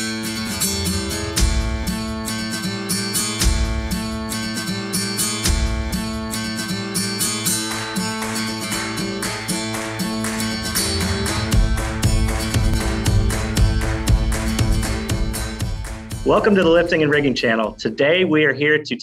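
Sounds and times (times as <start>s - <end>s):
strummed guitar music with beat: 0.0s - 17.9s.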